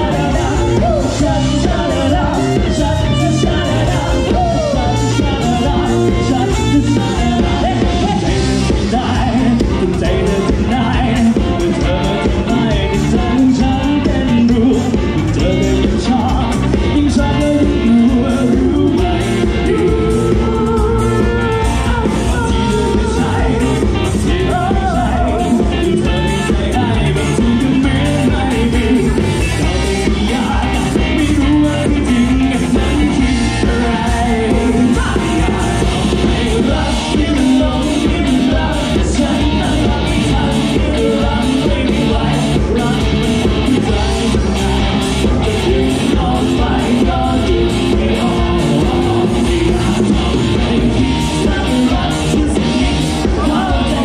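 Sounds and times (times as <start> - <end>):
drum kit: 0.0 - 54.0
electric guitar: 0.0 - 54.0.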